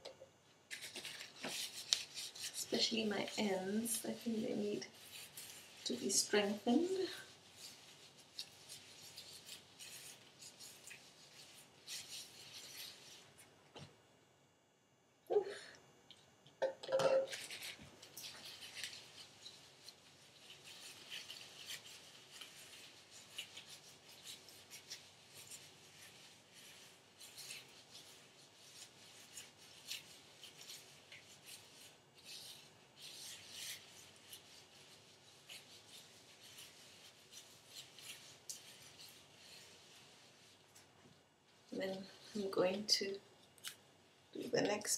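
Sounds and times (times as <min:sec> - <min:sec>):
gloved hands rustling hair: 0:00.7 - 0:14.0, 0:17.2 - 0:44.9.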